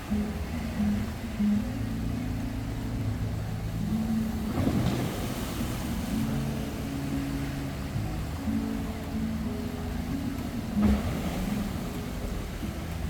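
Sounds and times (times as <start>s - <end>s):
boat engine running: 0.0s - 13.0s
rush of water: 0.0s - 13.0s
water wash: 0.0s - 13.0s.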